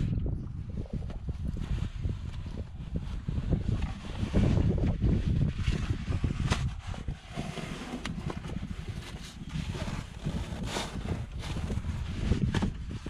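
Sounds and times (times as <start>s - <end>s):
wind rumble on microphone: 0.0s - 13.0s
fabric rustling and scraping: 1.2s - 13.0s.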